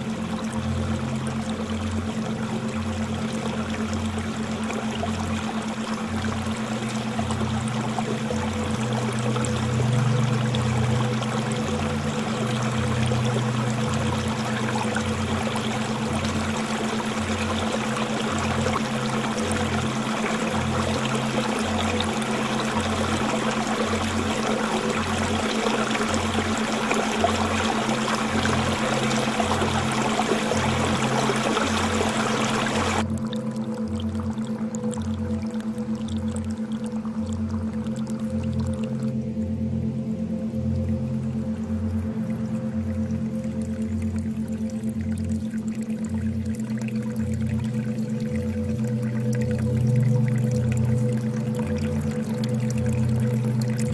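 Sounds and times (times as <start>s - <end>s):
water pouring and trickling: 0.0s - 39.3s, 40.6s - 53.9s
low hum: 0.0s - 53.9s.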